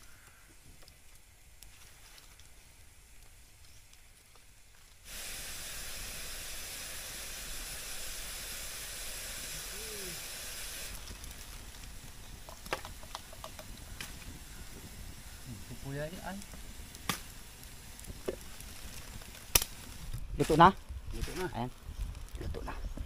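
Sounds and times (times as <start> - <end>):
steam hissing from bamboo tubes: 0.0 - 23.0
wood fire crackling: 0.0 - 23.0.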